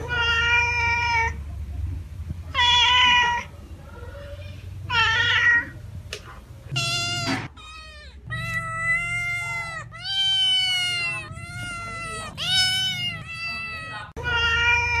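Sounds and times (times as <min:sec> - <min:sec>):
cat meowing: 0:00.0 - 0:01.4, 0:02.5 - 0:05.8, 0:06.7 - 0:15.0.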